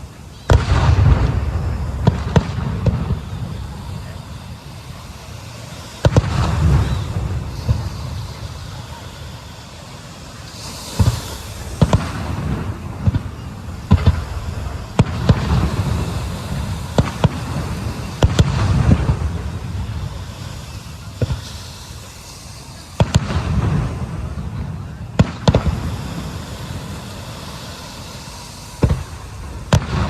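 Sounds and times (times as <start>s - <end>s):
fireworks bangs: 0.0s - 30.0s
low rumble of explosions: 0.0s - 30.0s.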